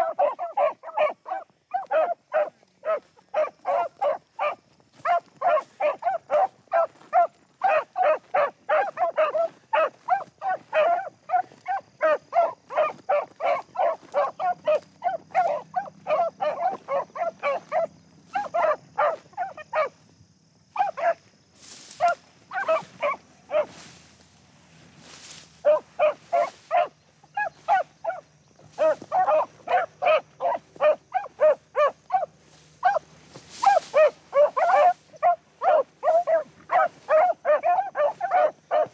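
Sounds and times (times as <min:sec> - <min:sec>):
beagles barking: 0:00.0 - 0:38.9.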